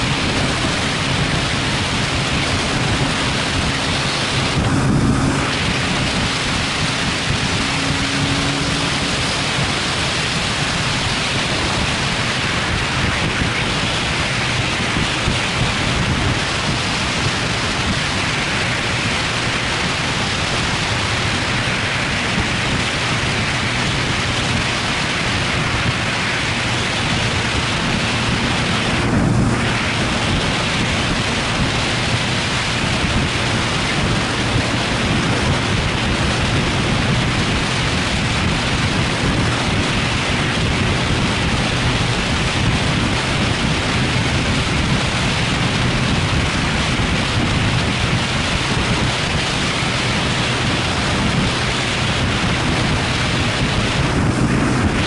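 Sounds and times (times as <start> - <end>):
motorcycle engine hum: 0.0 - 55.0
wind rushing over microphone: 0.0 - 55.0.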